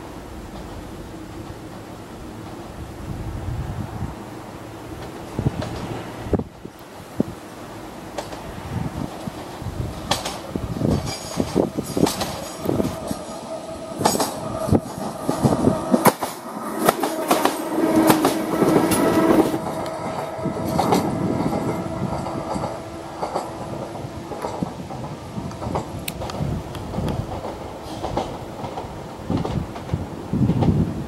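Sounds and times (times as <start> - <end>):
train whine: 0.0 - 31.0
train wheels clacking over rail joints: 0.4 - 2.8, 4.9 - 31.0.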